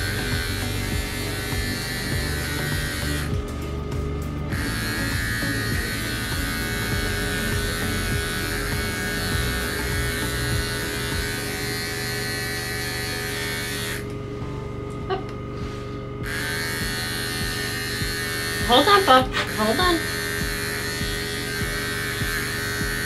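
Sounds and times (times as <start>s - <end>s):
electric pet clipper buzzing: 0.0s - 23.0s.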